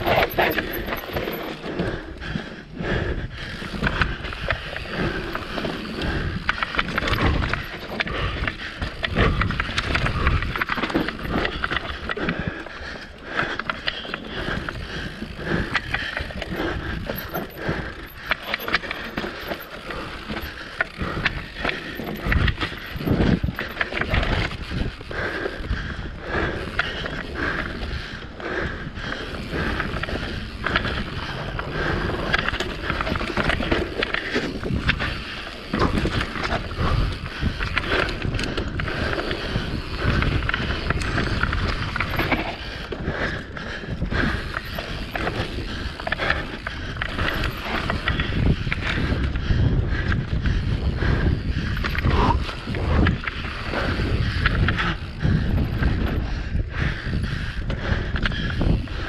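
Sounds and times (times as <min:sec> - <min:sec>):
bike chain and frame rattling: 0:00.0 - 0:59.0.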